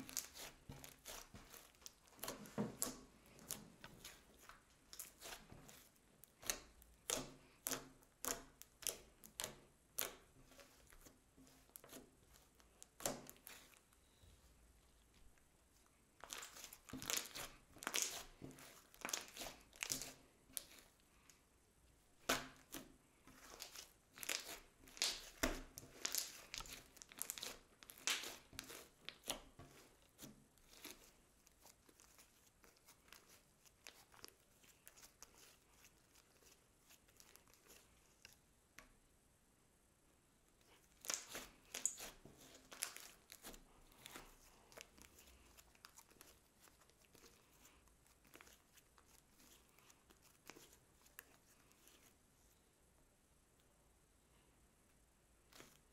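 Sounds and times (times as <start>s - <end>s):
slime crackling and popping: 0.0s - 13.9s, 16.2s - 21.0s, 22.2s - 38.4s, 40.6s - 52.0s.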